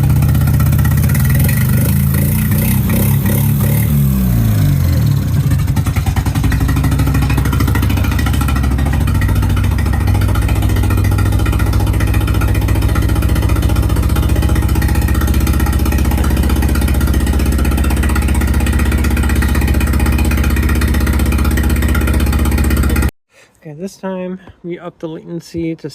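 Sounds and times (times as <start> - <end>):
car engine idling: 0.0 - 23.1.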